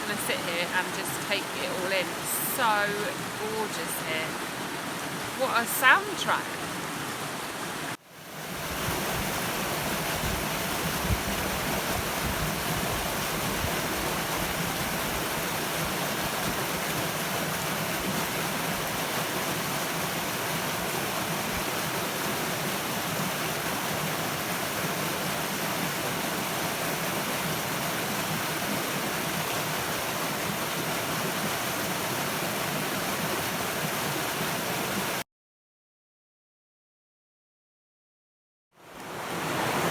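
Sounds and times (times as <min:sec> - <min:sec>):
river rushing over rocks: 0:00.0 - 0:35.2, 0:38.9 - 0:39.9.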